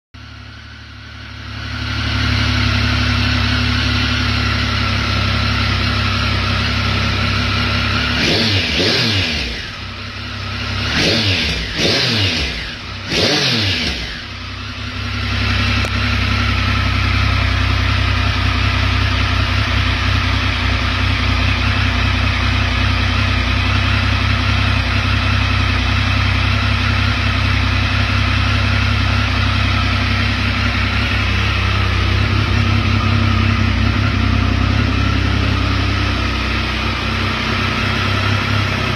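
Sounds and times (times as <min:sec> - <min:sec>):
motorcycle engine idling and revving: 0:00.2 - 0:38.9.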